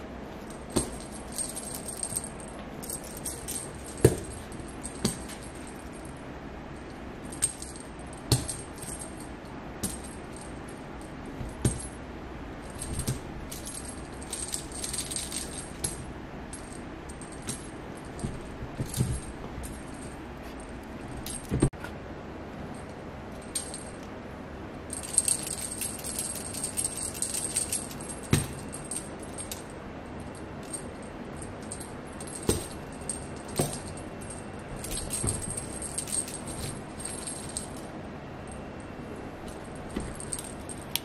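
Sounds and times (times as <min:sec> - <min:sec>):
cat toy rattling and jingling: 0:00.4 - 0:12.0, 0:12.6 - 0:21.6, 0:24.9 - 0:38.0, 0:39.5 - 0:41.0.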